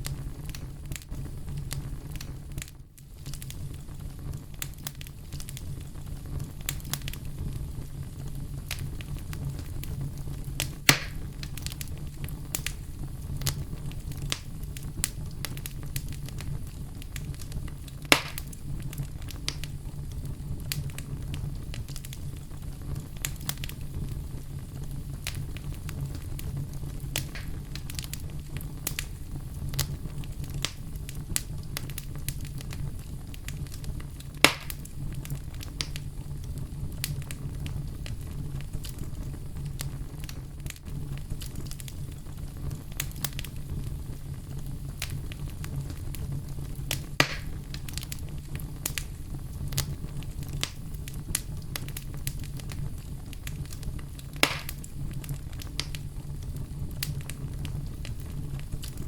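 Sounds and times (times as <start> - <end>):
loud fire pops: 0.0 - 59.0
low rumble of fire: 0.0 - 59.0
wood crackling and popping: 0.0 - 59.0.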